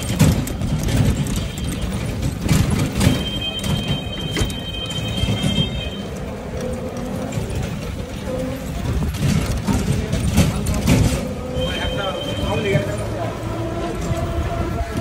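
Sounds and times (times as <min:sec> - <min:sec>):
rickshaw rattling on rough lane: 0:00.0 - 0:15.0.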